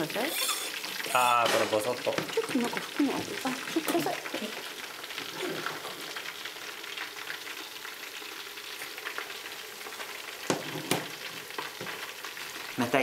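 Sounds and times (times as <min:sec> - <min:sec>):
deep-frying crackling sizzle: 0:00.0 - 0:13.0.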